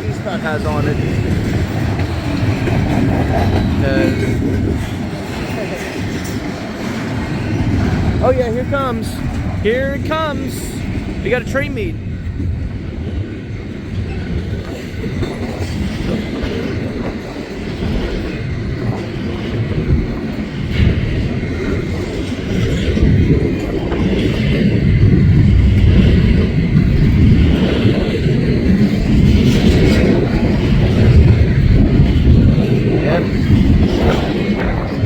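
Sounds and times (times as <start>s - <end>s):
freight train wheels clacking: 0.0s - 35.0s.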